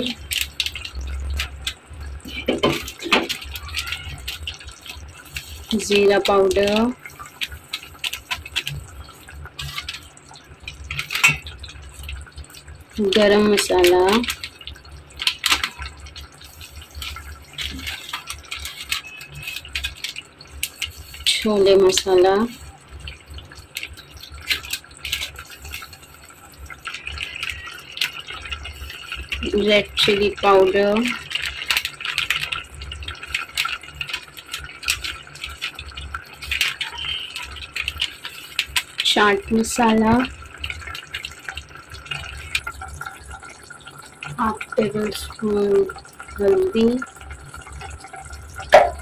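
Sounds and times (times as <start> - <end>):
low steady hum: 0.0 - 49.0
sauce simmering with pops and crackles: 0.0 - 49.0
soft sizzle: 0.0 - 49.0.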